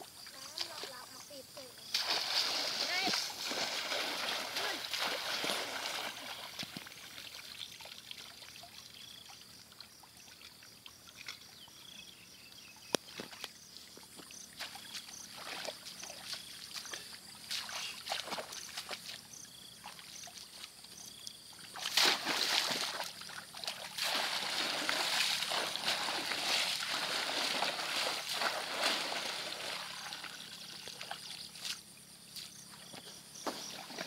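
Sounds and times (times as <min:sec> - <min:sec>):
water sloshing and splashing: 0:00.2 - 0:11.6, 0:13.1 - 0:34.0.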